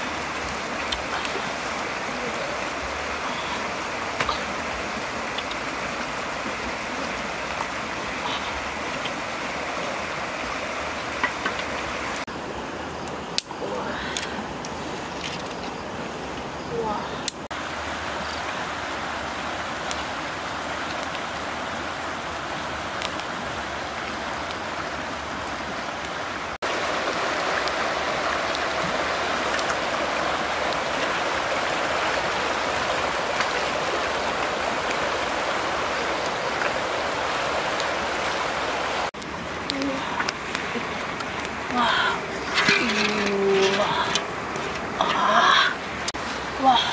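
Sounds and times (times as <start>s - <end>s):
river rushing over rapids: 0.0s - 15.1s, 16.0s - 46.9s.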